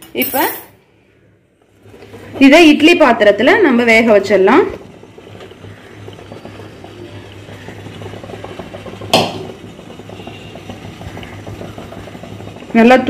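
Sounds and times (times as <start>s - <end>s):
mixture scraping and crackling: 1.6s - 13.0s.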